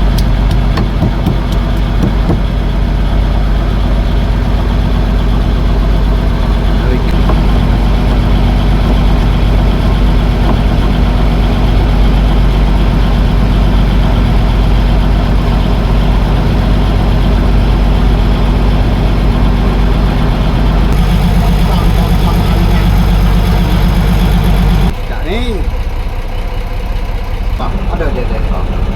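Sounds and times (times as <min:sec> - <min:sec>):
boat engine running: 0:00.0 - 0:28.9.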